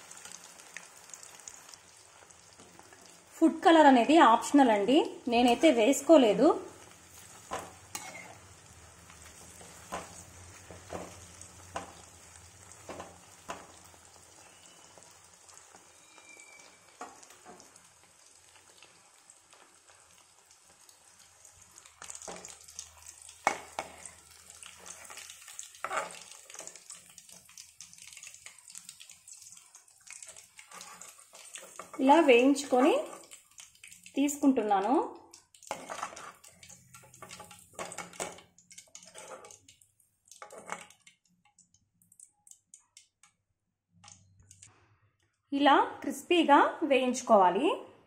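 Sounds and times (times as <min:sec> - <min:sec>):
chicken deep-frying in oil: 0:00.0 - 0:44.7.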